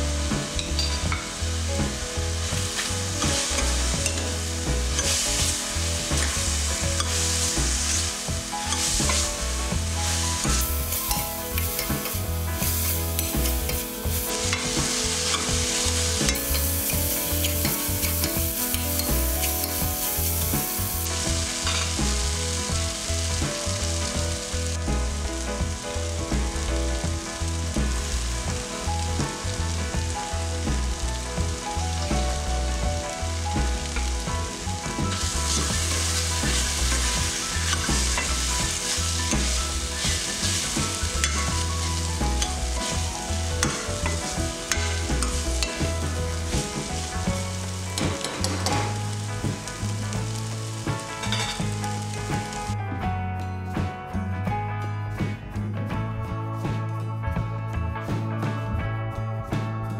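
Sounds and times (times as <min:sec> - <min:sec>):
vegetables sizzling in a pan: 0:00.0 - 0:52.8.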